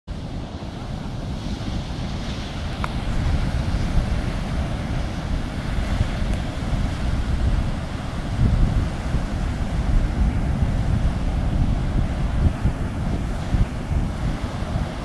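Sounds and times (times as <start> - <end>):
surf breaking on beach: 0.1 - 15.0
wind rumbling on microphone: 0.1 - 15.0.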